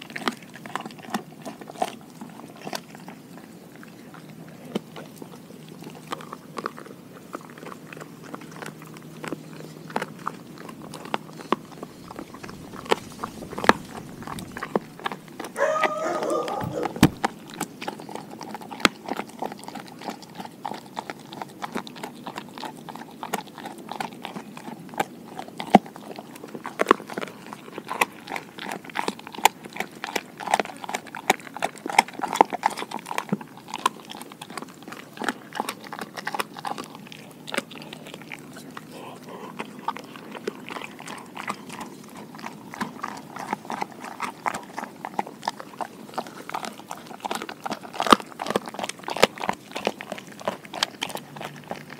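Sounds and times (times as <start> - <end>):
dog chewing crunchy cartilage: 0.0 - 51.9.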